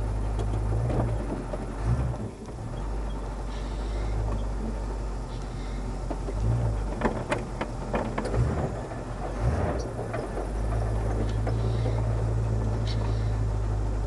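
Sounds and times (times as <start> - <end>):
car engine droning: 0.0 - 14.0.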